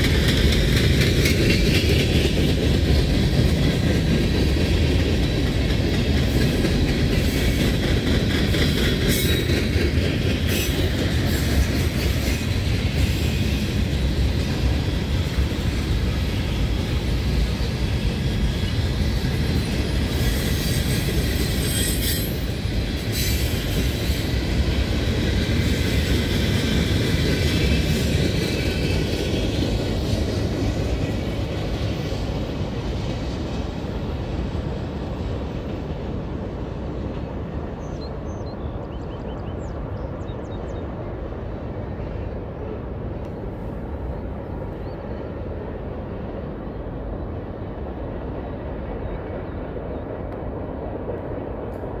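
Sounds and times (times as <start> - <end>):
freight train rolling on rails: 0.0 - 52.0.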